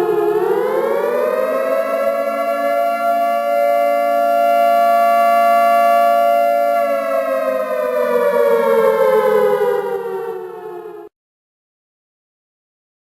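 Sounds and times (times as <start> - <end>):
siren wailing: 0.0 - 11.1.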